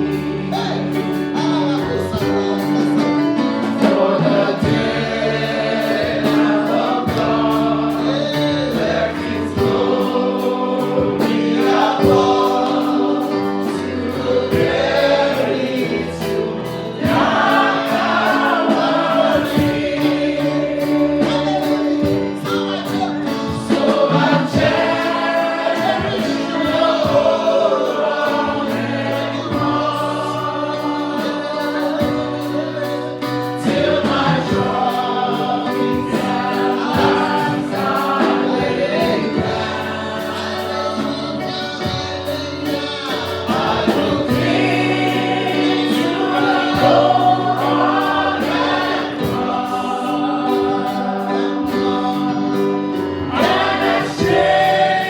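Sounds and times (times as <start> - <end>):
choir singing: 0.0 - 55.0
instrumental accompaniment with bass: 0.0 - 55.0
steady percussion beat: 0.0 - 55.0.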